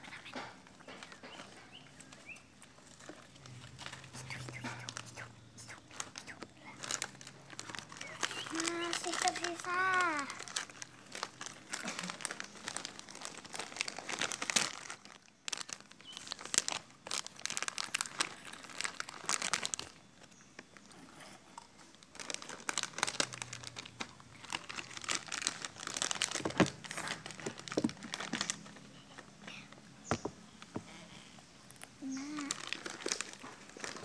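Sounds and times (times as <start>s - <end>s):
plastic wrappers crinkling: 0.2s - 34.0s.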